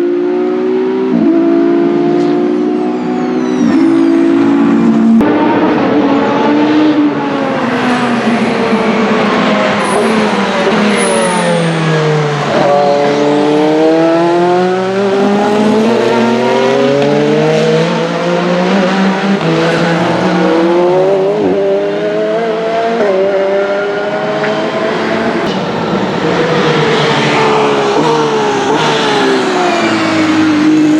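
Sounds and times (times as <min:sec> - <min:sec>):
race car engine: 0:00.0 - 0:30.9.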